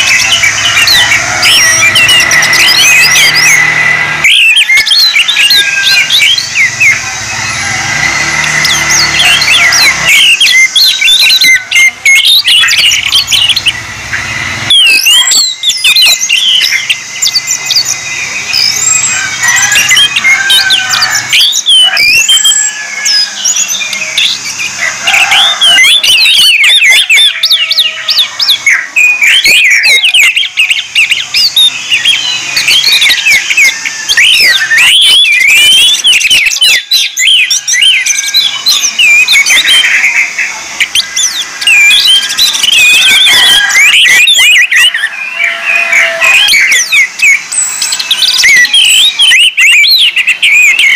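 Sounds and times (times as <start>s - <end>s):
thrush singing: 0.0s - 50.9s.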